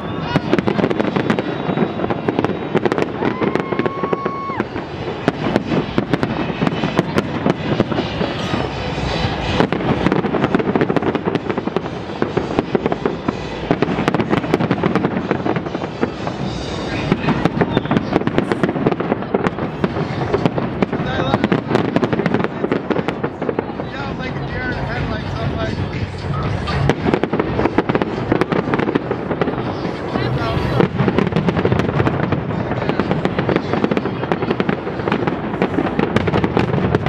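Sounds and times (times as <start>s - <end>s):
firework whistle: 0.0s - 37.0s
fireworks bangs and crackling: 0.0s - 37.0s.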